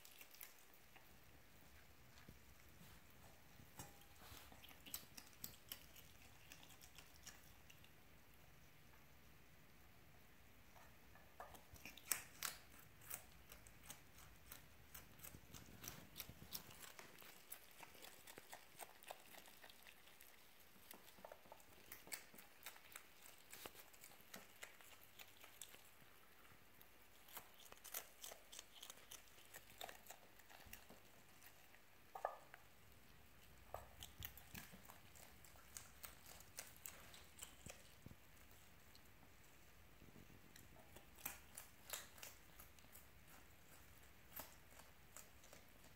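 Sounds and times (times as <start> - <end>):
animal chewing and crunching food: 0.0 - 9.2, 10.6 - 45.9.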